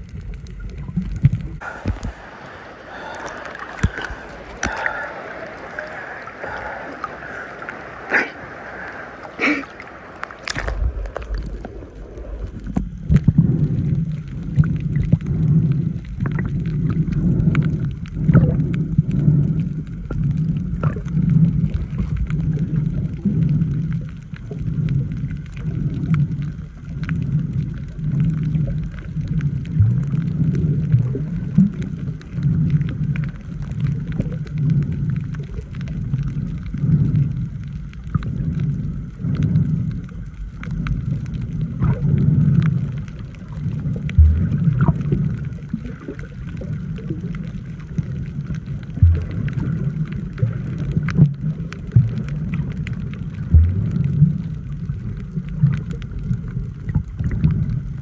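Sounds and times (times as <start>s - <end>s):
underwater rumble: 0.0s - 58.0s.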